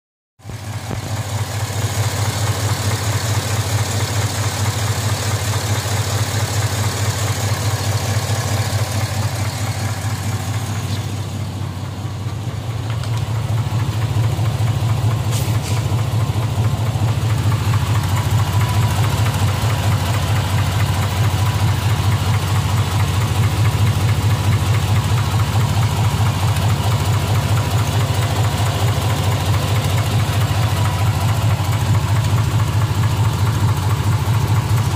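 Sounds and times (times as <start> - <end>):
engine idling with rapid knock: 0.4 - 34.9.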